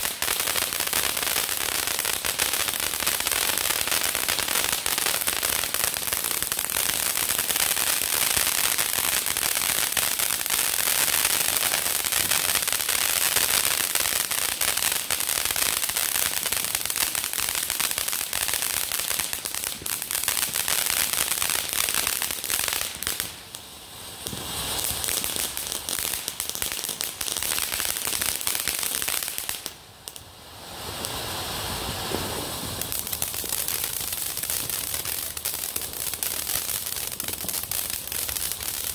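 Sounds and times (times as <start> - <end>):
firework fountains crackling hiss: 0.0 - 38.9.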